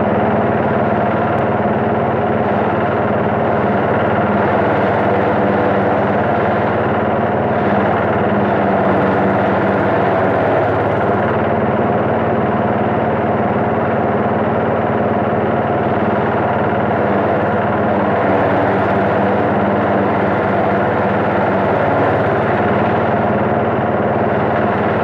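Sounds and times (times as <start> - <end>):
cutter and blower whirring: 0.0 - 25.0
engine drone: 0.0 - 25.0.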